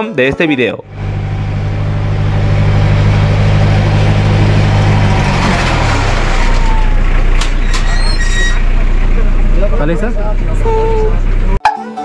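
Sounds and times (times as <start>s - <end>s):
cable car engine humming: 0.8s - 11.6s.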